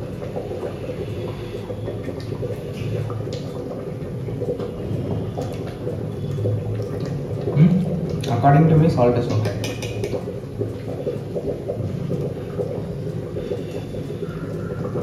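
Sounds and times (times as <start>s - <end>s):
gravy bubbling in pot: 0.0s - 15.0s.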